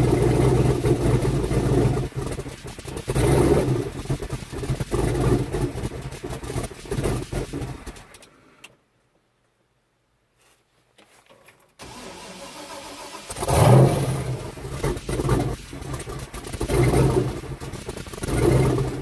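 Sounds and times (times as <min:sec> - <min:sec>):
pickup truck engine running: 0:00.0 - 0:08.2, 0:11.8 - 0:19.0
engine cranking and firing up: 0:00.0 - 0:08.7, 0:11.8 - 0:19.0.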